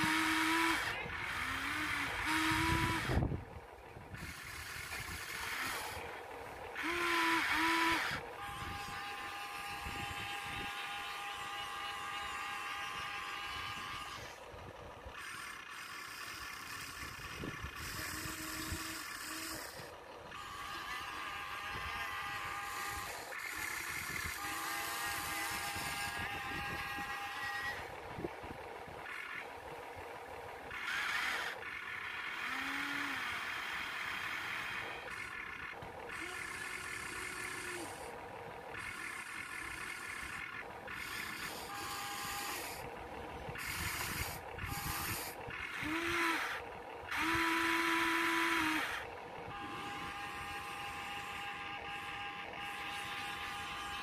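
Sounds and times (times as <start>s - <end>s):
toy excavator motors whining: 0.0s - 54.0s.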